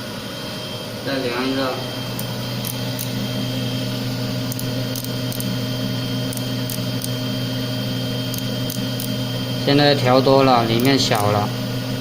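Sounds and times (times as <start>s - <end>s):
grinder motor hum: 0.0s - 12.0s
steady whine: 0.0s - 12.0s.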